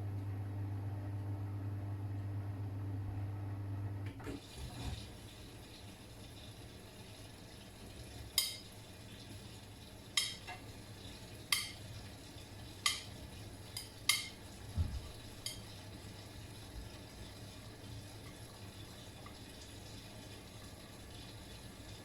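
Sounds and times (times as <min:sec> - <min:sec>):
washing machine drum hum: 0:00.0 - 0:22.0.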